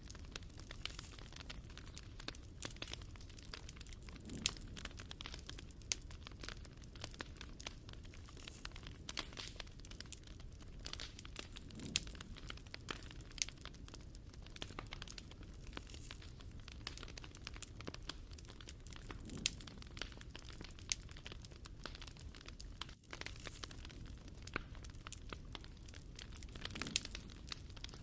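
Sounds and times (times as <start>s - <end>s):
low fire rumble: 0.0s - 28.0s
wood fire pops and snaps: 0.0s - 28.0s.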